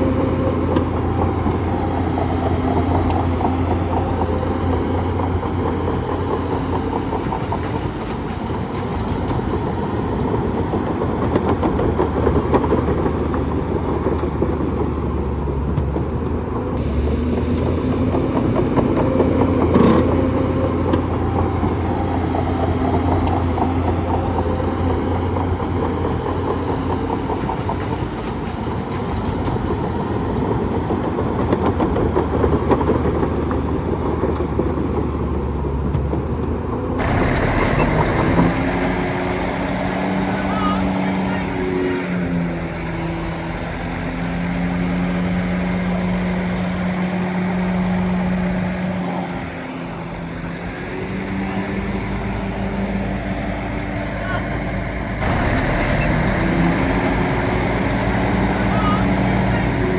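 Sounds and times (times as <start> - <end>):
bulldozer engine rattling: 0.0 - 59.9.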